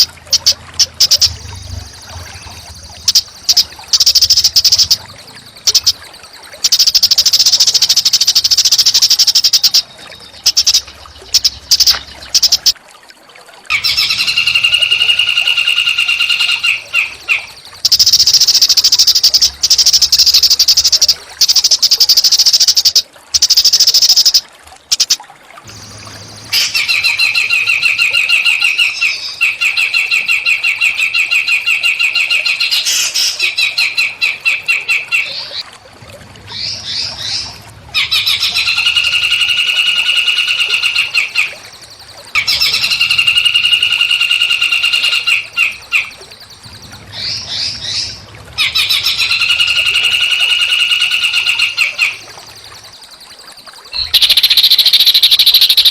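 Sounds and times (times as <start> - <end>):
songbird buzzy trills: 0.0 - 12.8, 13.7 - 35.6, 36.4 - 55.9.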